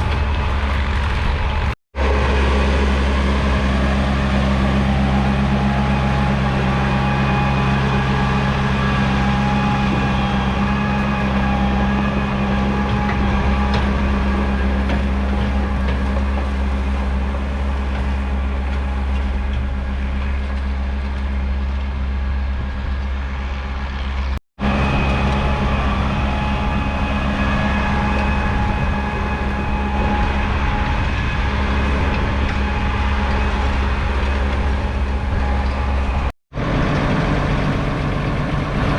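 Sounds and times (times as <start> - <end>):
diesel tractor engine droning: 0.0 - 38.9.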